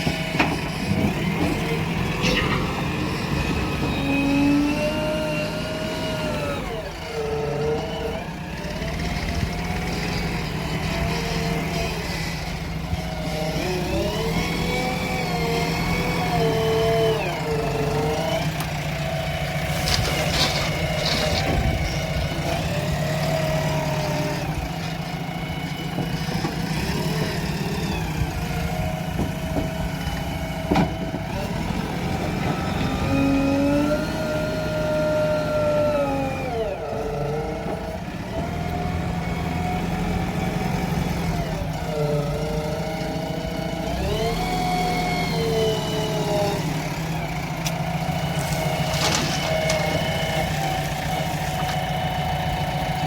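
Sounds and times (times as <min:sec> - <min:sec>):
heavy machinery diesel engine: 0:00.0 - 0:53.0.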